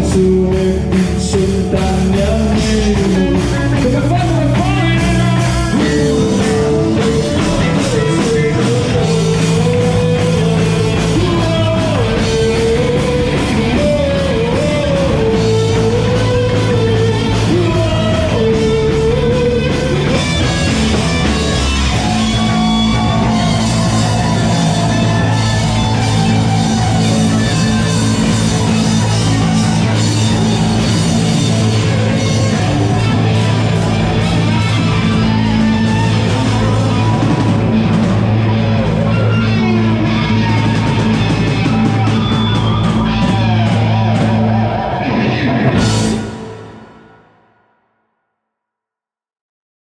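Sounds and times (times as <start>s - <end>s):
bending electric guitar melody: 0.0s - 47.2s
rock band playing live: 0.0s - 47.2s.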